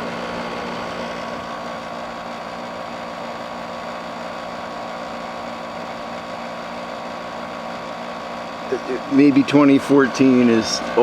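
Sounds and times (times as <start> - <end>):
dehumidifier compressor and fan hum: 0.0 - 11.0.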